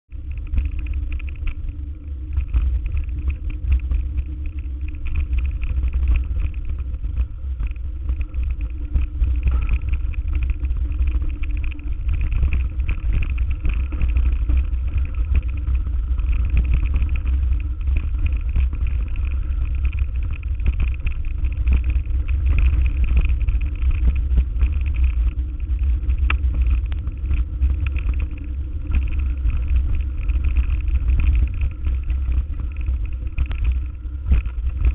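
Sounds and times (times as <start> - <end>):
vehicle rumbling: 0.0 - 34.9.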